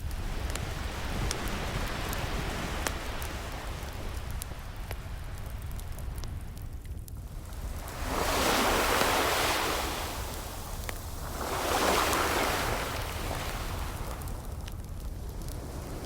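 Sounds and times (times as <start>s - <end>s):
ocean waves washing in: 0.0s - 6.6s, 7.2s - 16.0s
low rumble of surf: 0.0s - 16.0s
wood fire crackle: 0.0s - 16.0s.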